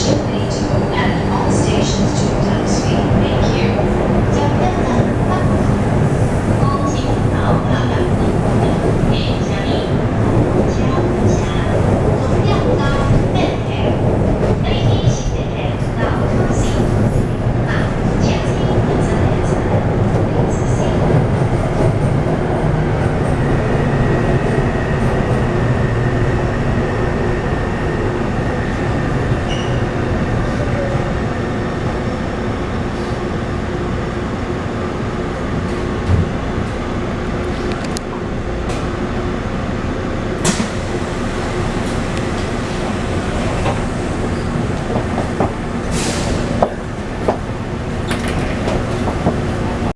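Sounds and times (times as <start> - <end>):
train wheels on rails: 0.0 - 34.0, 40.3 - 49.9.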